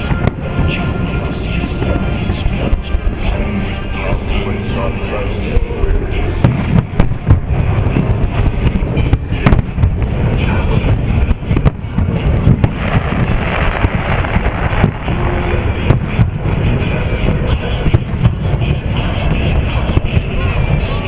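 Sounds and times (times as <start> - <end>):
low rumble of booms: 0.0 - 4.6, 5.4 - 21.0
firework bangs and crackles: 0.0 - 21.0.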